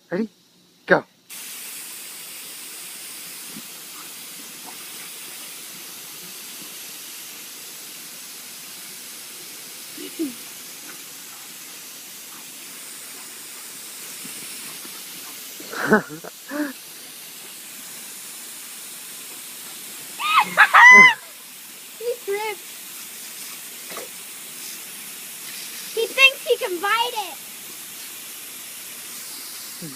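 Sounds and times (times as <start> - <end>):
water spraying from hose nozzle: 1.3 - 29.9.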